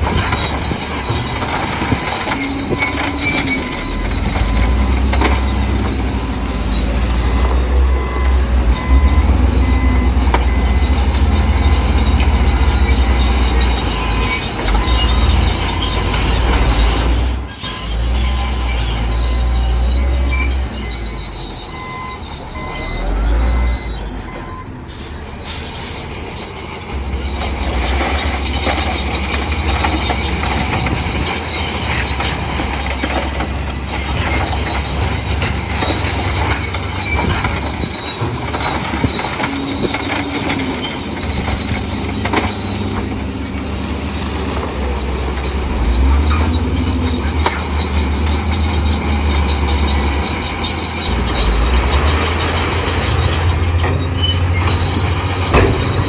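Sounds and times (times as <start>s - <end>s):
bulldozer diesel engine rumble: 0.0s - 56.0s
steel tracks clanking and grinding: 0.0s - 56.0s.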